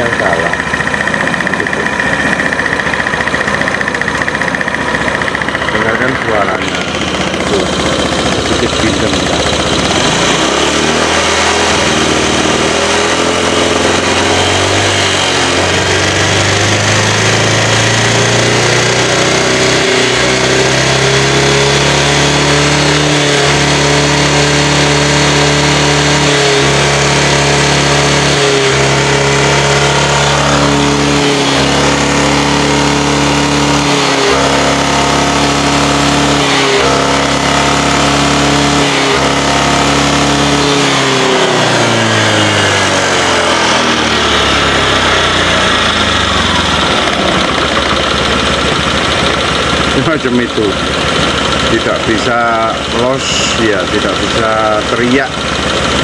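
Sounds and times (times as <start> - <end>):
motor scooter engine revving: 0.0 - 56.0.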